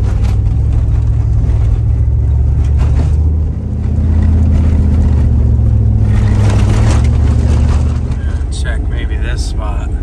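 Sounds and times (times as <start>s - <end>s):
car engine and tyre drone: 0.0s - 10.0s
road noise: 0.0s - 10.0s.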